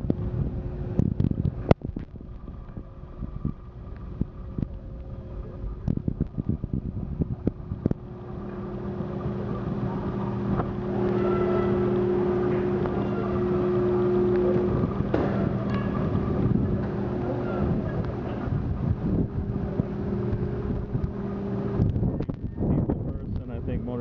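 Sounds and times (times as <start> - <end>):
ferry engines humming: 0.0 - 24.0.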